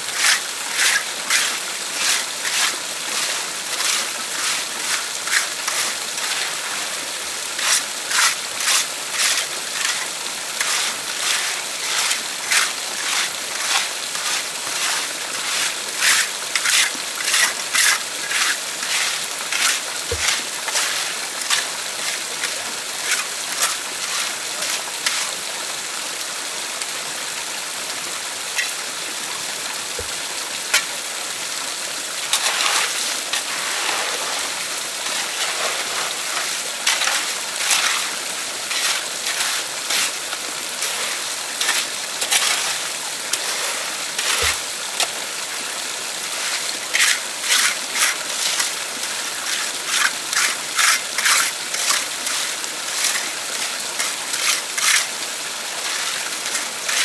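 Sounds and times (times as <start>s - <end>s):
water splashing: 0.0s - 25.4s, 29.8s - 55.1s
water running: 0.0s - 25.5s, 28.6s - 55.1s, 55.8s - 57.0s.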